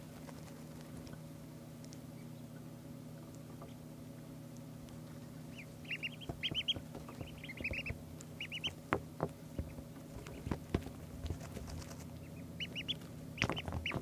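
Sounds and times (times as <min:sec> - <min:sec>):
duckling peeping: 0:00.0 - 0:14.0
steady low hum: 0:00.0 - 0:14.0.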